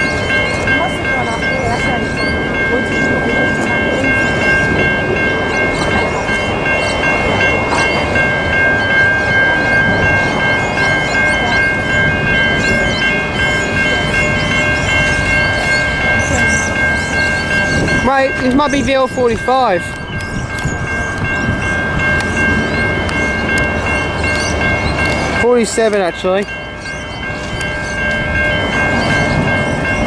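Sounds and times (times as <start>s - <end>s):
level crossing warning bells: 0.0s - 30.0s.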